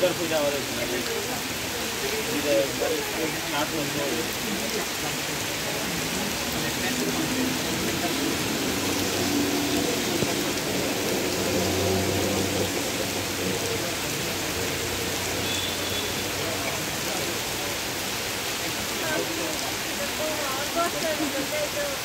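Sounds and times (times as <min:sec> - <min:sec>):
rain on wet pavement: 0:00.0 - 0:22.0.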